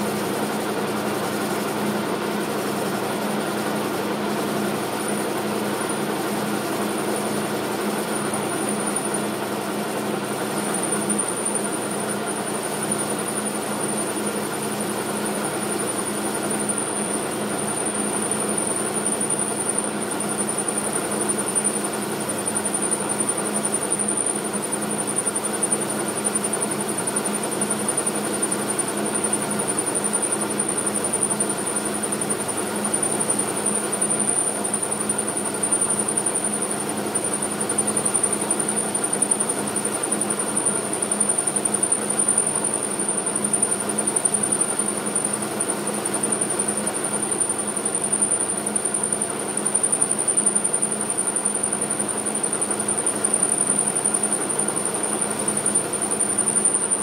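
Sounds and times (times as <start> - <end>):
metal lathe humming with whine: 0.0 - 57.0.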